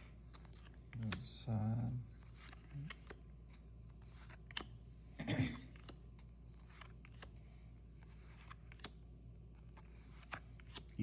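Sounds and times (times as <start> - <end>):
card rustle: 0.1 - 1.4, 2.0 - 4.8, 5.6 - 11.0
cards flipped by hand: 0.2 - 1.3, 2.2 - 4.9, 5.6 - 11.0.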